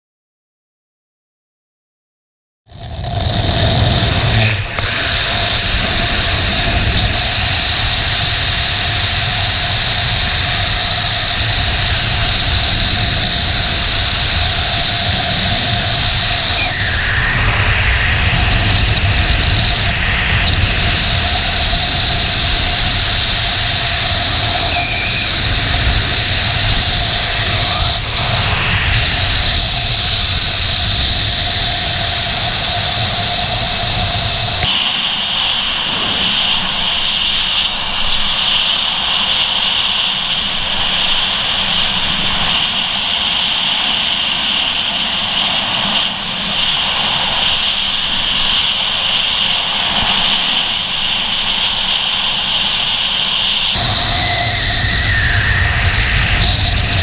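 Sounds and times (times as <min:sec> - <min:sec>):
wind rushing over microphone: 0:02.7 - 0:57.0.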